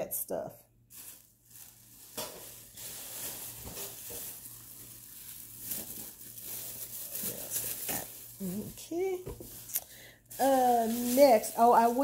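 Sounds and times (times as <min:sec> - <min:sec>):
packaging rustling: 0:00.9 - 0:12.0.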